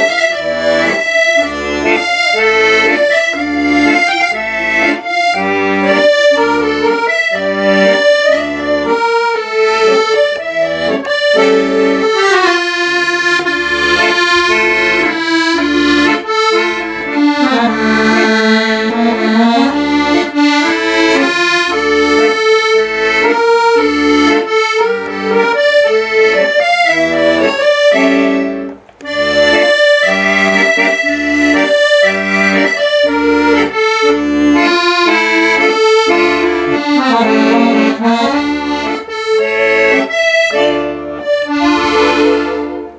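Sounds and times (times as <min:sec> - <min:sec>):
accordion music: 0:00.0 - 0:42.9.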